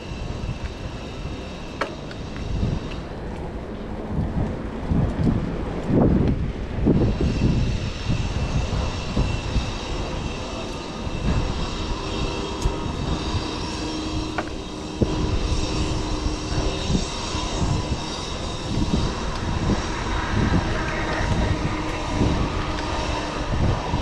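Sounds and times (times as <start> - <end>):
aircraft engine whine: 0.0 - 24.0
wind buffeting microphone: 0.0 - 24.0.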